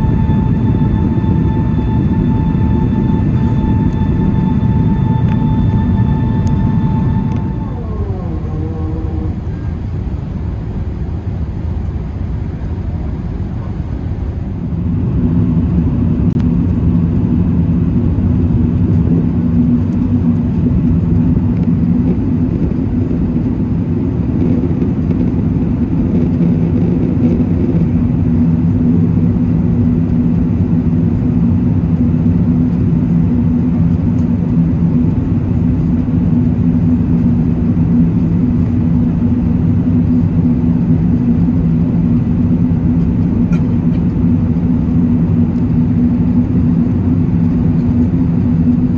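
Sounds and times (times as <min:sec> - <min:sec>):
aircraft cabin engine rumble: 0:00.0 - 0:48.9
steady low hum: 0:00.0 - 0:48.9.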